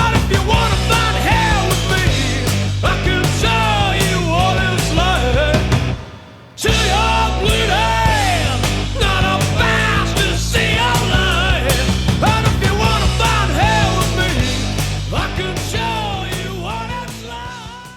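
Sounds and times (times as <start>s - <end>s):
bass guitar: 0.0s - 17.9s
drums: 0.0s - 17.9s
rock song with singer: 0.0s - 17.9s.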